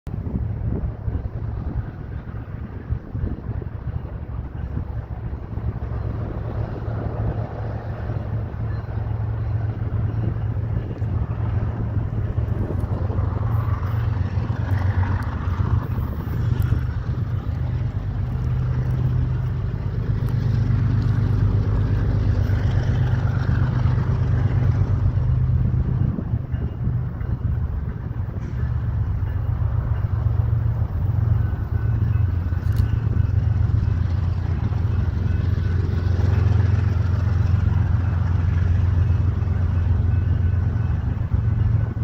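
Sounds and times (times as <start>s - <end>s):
diesel locomotive engines rumbling: 0.1s - 42.0s.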